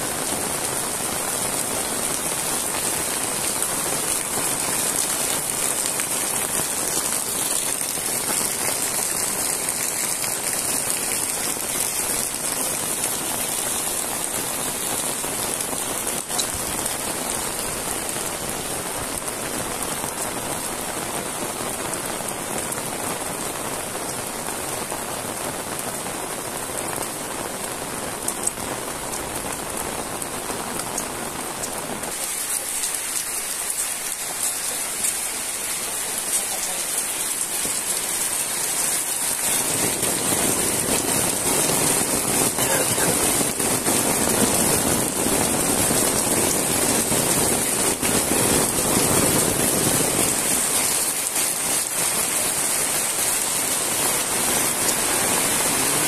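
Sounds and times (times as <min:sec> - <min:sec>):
heavy rain on paving and roofs: 0:00.0 - 0:56.0.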